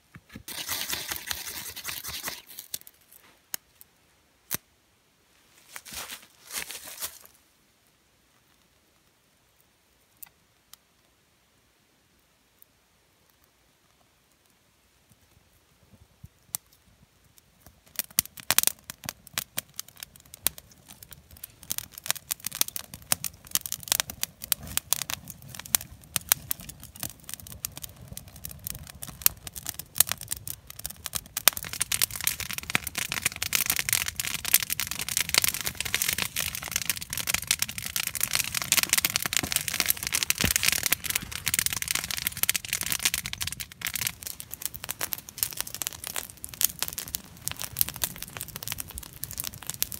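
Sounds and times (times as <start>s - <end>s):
fire crackling: 0.3s - 4.7s, 12.6s - 49.9s.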